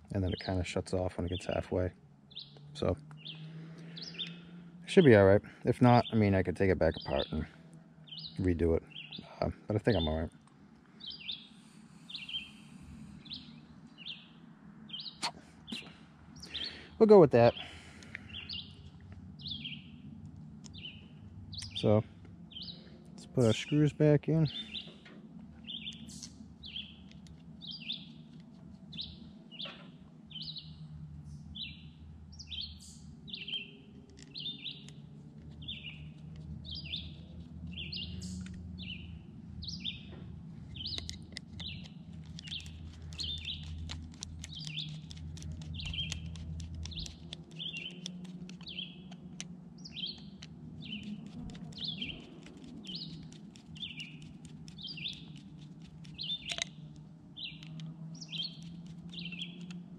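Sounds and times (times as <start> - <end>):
bird chirping: 0.0 - 5.0, 5.8 - 59.9.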